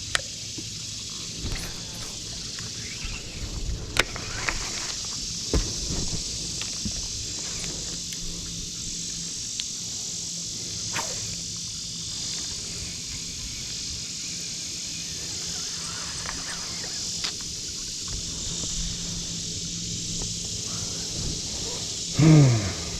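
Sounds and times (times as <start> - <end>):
high-pitched insect drone: 0.0 - 22.9.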